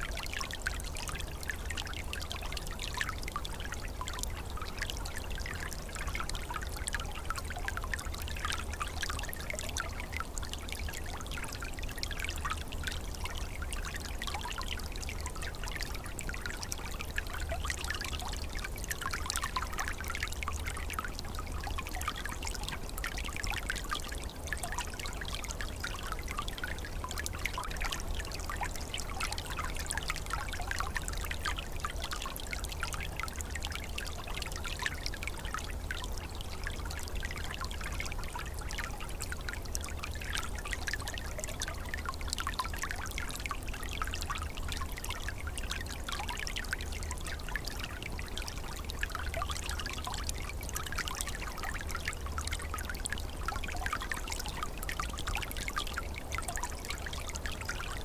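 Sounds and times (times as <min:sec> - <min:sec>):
stream trickling and bubbling: 0:00.0 - 0:58.0.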